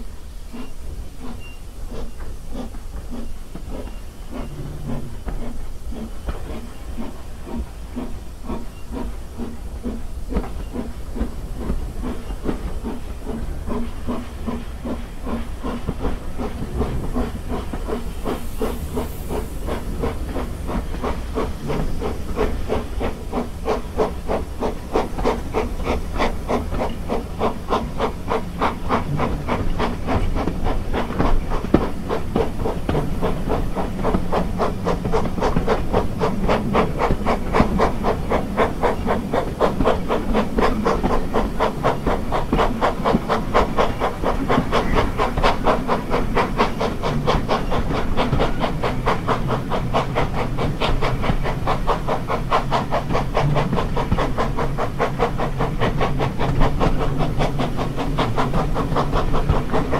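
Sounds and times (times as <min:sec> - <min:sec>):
low rumble of train running: 0:00.0 - 0:59.9
steam locomotive exhaust beats: 0:00.0 - 0:59.9.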